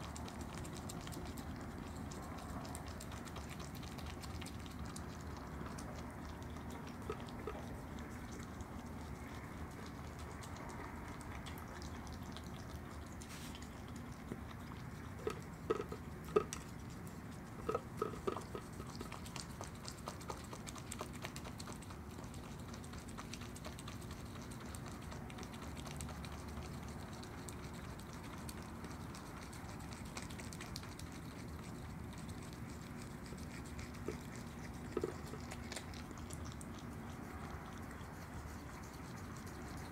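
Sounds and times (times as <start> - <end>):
animal chewing and crunching: 0.0 - 39.9.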